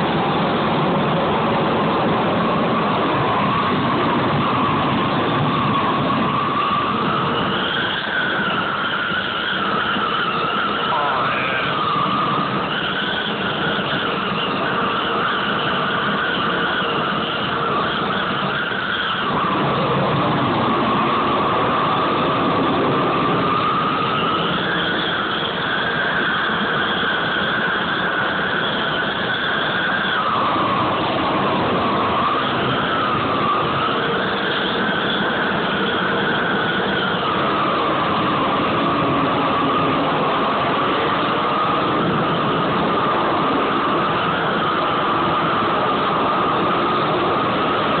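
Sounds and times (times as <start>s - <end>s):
propane torch burning: 0.0s - 48.0s
torch whistling tone: 0.0s - 48.0s.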